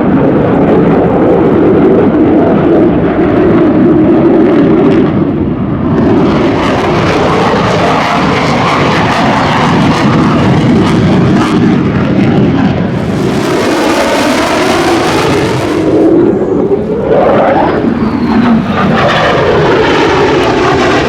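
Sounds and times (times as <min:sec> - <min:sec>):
fighter jet engine roar: 0:00.0 - 0:21.0.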